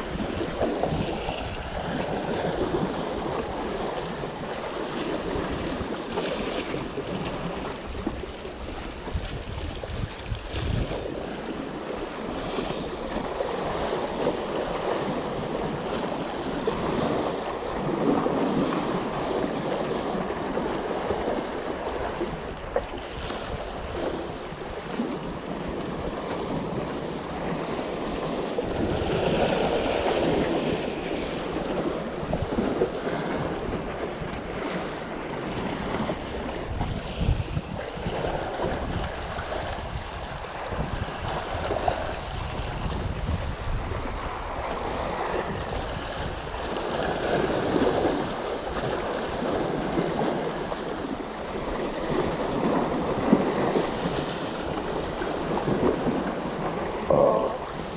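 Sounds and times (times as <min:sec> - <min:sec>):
waves splashing against boulders: 0:00.0 - 0:57.9
wind buffeting microphone: 0:00.0 - 0:57.9.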